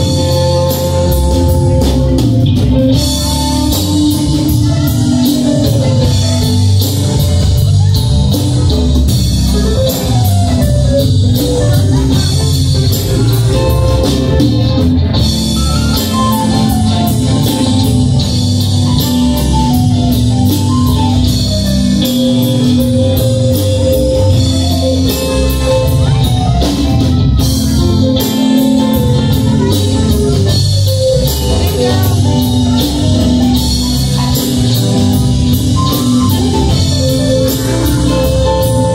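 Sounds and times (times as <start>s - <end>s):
conga drums: 0.0s - 38.9s
live rock band playing: 0.0s - 38.9s.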